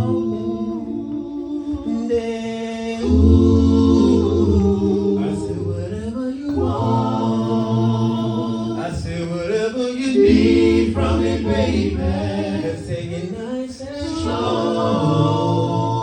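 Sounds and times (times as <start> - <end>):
vocal group singing a cappella: 0.0 - 16.0.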